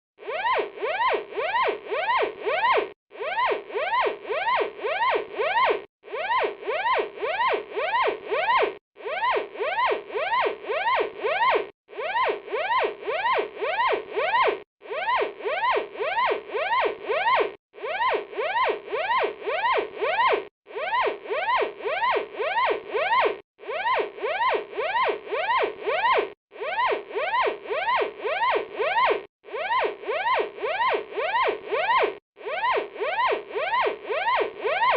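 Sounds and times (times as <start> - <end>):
electronic fire alarm sweeps: 0.3 - 34.9.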